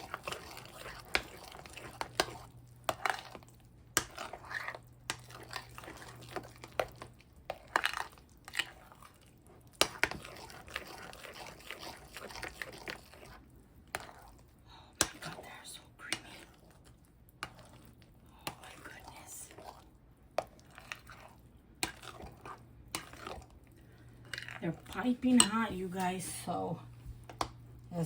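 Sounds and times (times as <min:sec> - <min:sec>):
mashed potatoes squelching: 0:00.0 - 0:28.0.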